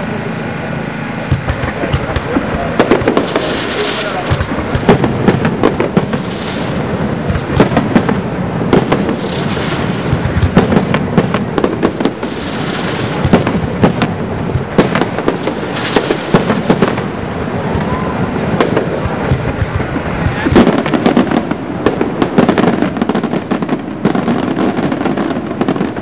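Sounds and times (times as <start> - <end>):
firework shell bursts: 1.1 - 26.0
din of explosions: 1.2 - 26.0.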